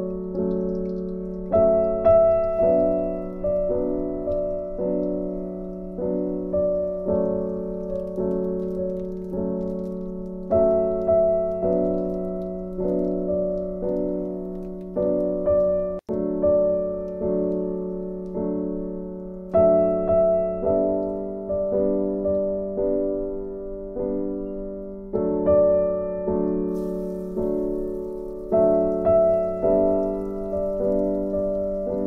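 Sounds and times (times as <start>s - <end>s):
piano music with low tone: 0.0s - 32.0s.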